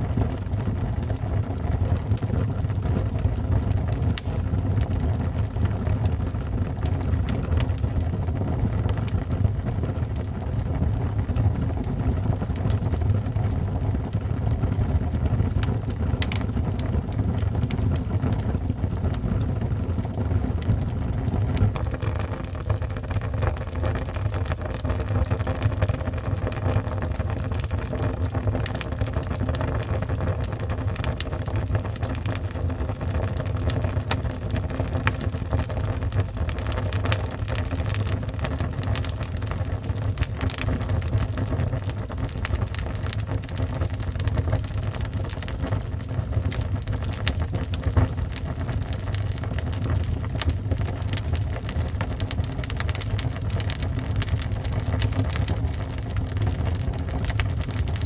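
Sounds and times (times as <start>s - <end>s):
fire crackling in fireplace: 0.0s - 58.0s.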